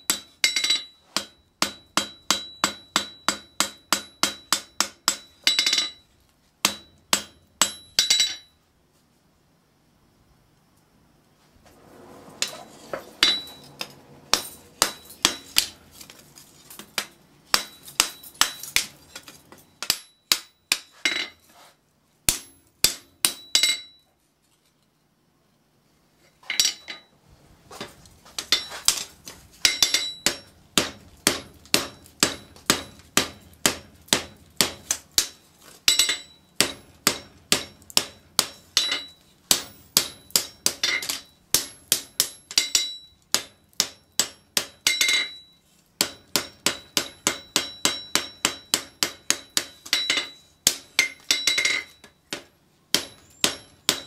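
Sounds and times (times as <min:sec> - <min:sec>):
hammer striking steel on anvil: 0:00.0 - 0:08.6, 0:12.4 - 0:15.8, 0:16.8 - 0:21.4, 0:22.3 - 0:24.0, 0:26.5 - 0:27.1, 0:28.4 - 0:54.0.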